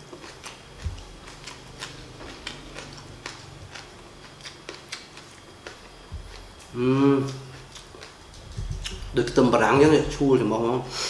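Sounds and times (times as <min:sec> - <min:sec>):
crunchy chewing of raw onion: 0:00.0 - 0:10.1.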